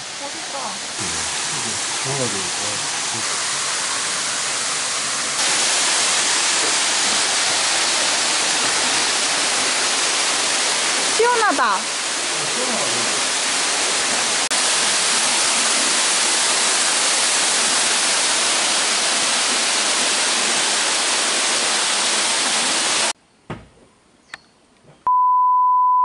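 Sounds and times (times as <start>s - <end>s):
waterfall rushing: 0.0s - 23.2s.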